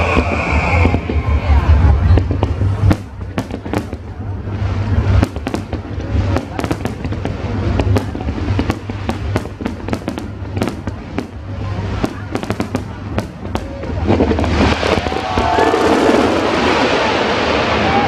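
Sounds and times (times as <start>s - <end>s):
fireworks bangs and cracks: 0.0s - 18.0s
fireworks crackling hiss: 0.0s - 18.0s.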